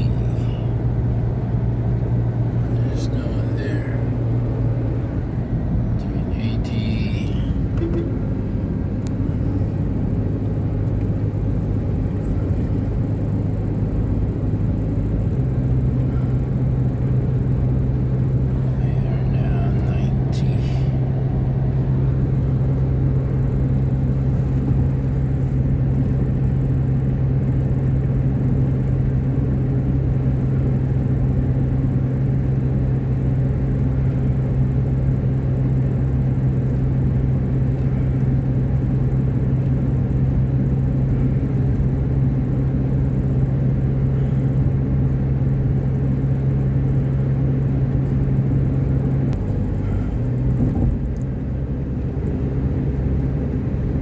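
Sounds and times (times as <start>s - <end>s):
car engine drone: 0.0s - 54.0s
tyre and road rumble: 0.0s - 54.0s.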